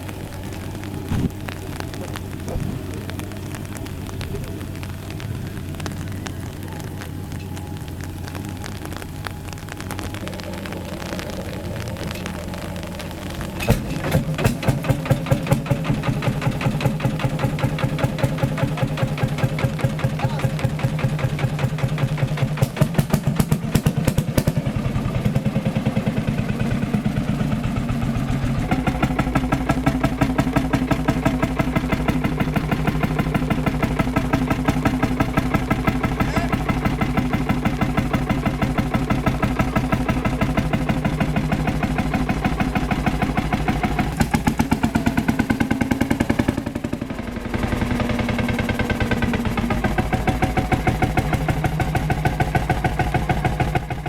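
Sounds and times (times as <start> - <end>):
tractor engine pulsing: 0.0 - 54.0.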